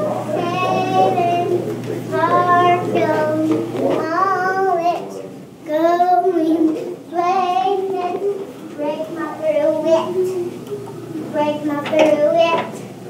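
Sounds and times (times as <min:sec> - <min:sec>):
child singing: 0:00.0 - 0:10.6, 0:11.3 - 0:12.9.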